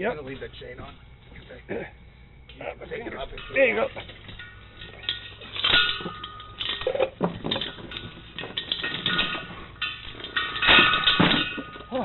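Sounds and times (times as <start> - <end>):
metal chain links clanking: 0.0 - 12.0
short metallic ring: 2.3 - 12.0.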